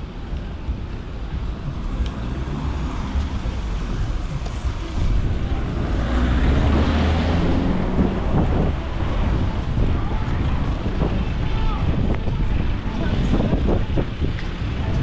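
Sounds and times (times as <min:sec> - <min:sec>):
car engine rumble: 0:00.0 - 0:15.0
tyre noise: 0:00.0 - 0:15.0.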